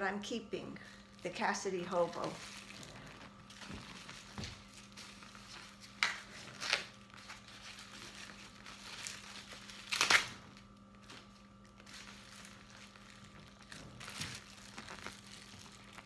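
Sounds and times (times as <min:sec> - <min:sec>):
plastic wrapping crinkling: 0:00.6 - 0:16.0.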